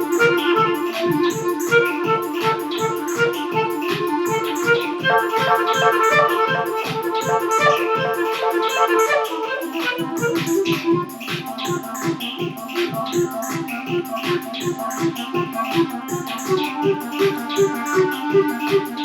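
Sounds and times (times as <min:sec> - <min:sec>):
drum machine beat: 0:00.0 - 0:19.0
repeating keyboard pattern: 0:00.0 - 0:19.0.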